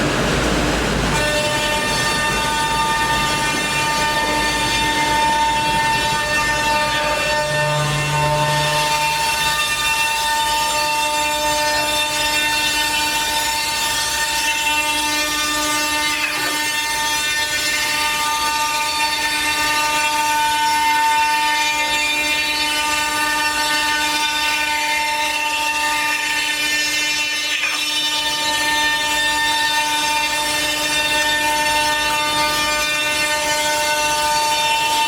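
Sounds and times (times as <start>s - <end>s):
cnc machine whining: 0.0s - 35.0s.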